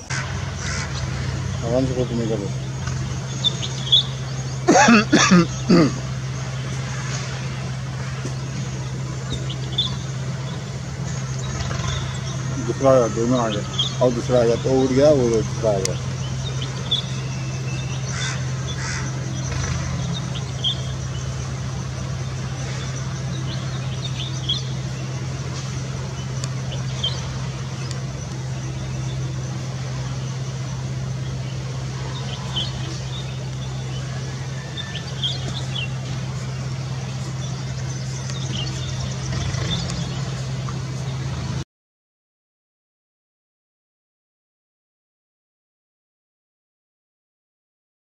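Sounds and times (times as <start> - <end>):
high bird chirps: 0.0 - 41.2
steady low hum: 0.0 - 41.6.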